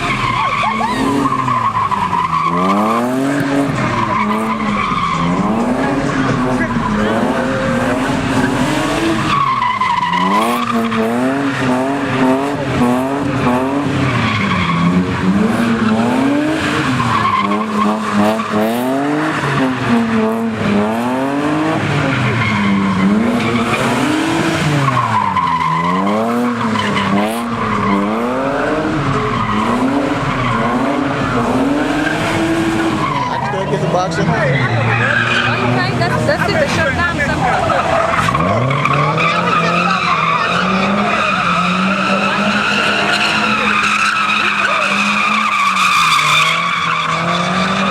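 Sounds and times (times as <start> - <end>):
car engine revving: 0.0 - 47.9
tires spinning and squealing: 0.0 - 47.9.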